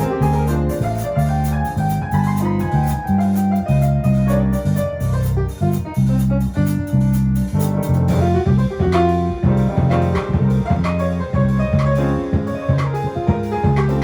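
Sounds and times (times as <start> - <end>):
latin jazz piano: 0.0 - 14.0
low bass notes: 0.0 - 14.0.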